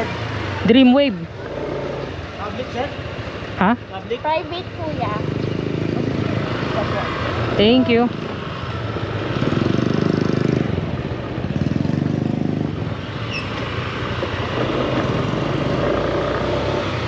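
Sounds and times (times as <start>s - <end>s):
scooter engine revving: 0.0s - 2.8s, 4.3s - 17.0s.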